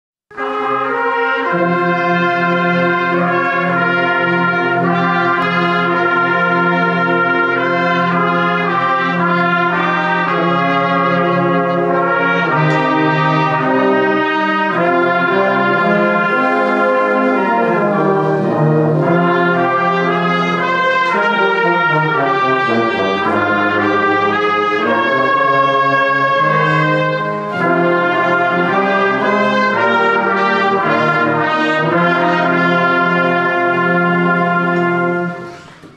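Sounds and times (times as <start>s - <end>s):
brass band with flutes playing: 0.3s - 35.9s.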